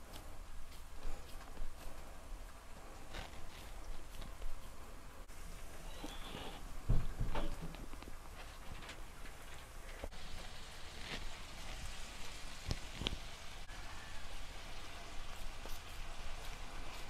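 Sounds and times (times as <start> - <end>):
crumbly cheese rustling: 0.0 - 6.6, 7.4 - 17.0.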